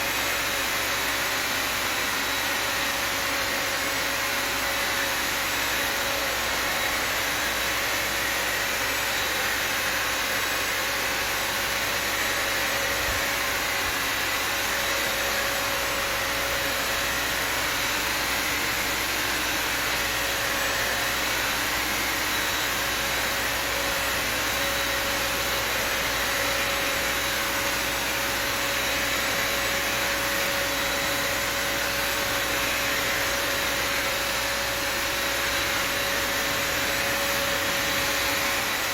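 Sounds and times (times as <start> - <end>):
vacuum motor running: 0.0 - 38.9.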